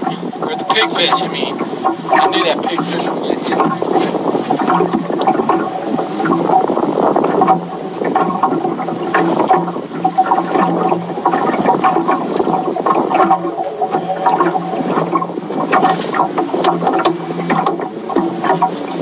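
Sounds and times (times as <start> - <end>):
small splashes: 0.0 - 19.0
steady hum: 0.0 - 19.0
water slapping boat hull: 0.0 - 19.0.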